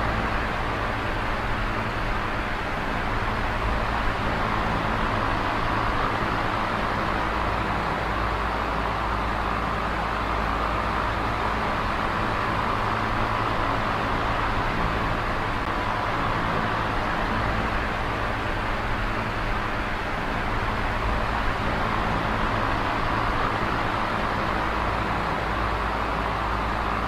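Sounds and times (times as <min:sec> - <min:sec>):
electric fan rushing air: 0:00.0 - 0:27.0.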